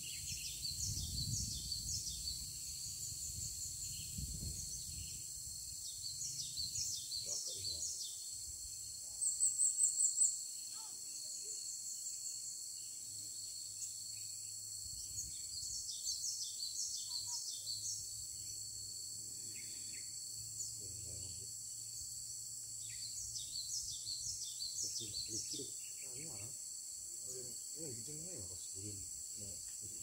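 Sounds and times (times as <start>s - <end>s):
insect drone: 0.0s - 30.0s
small birds chirping: 0.0s - 30.0s.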